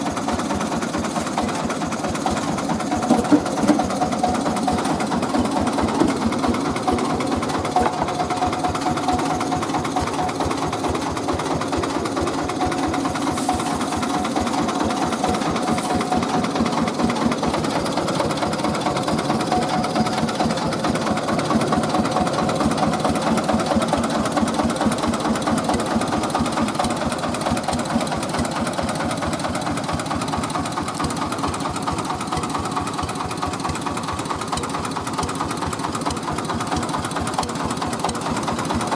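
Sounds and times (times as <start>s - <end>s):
rice milling machine running: 0.0s - 38.9s.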